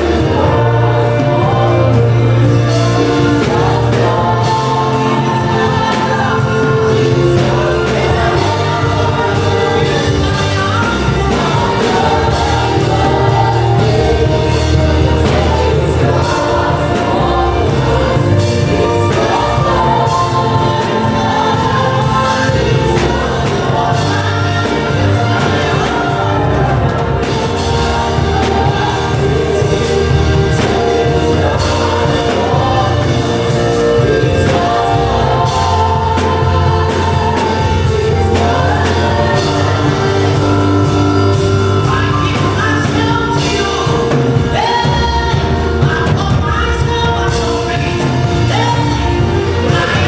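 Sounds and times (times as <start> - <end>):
band with bass line: 0.0 - 50.0
choir singing: 0.0 - 50.0.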